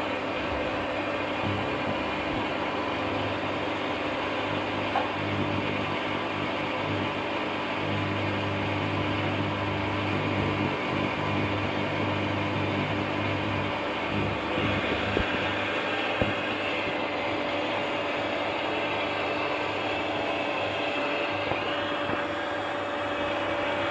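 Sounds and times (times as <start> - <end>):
electric water pump humming: 0.0 - 23.9.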